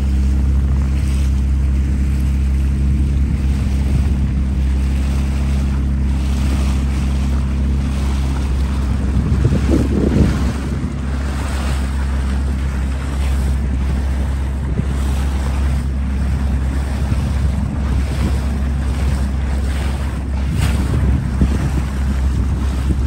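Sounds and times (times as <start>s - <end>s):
low engine hum: 0.0s - 23.0s
water rushing past hull: 0.0s - 23.0s
wind on microphone: 0.0s - 23.0s.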